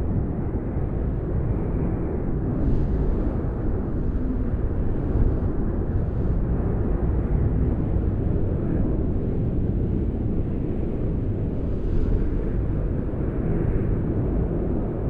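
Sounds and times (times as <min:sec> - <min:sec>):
wind blowing steadily: 0:00.0 - 0:15.0.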